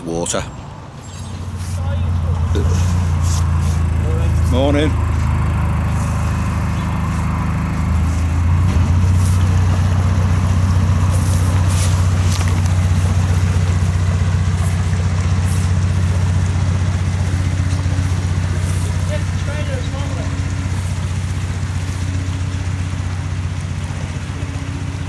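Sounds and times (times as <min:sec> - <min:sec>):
boat diesel engine chugging: 0:00.0 - 0:25.0.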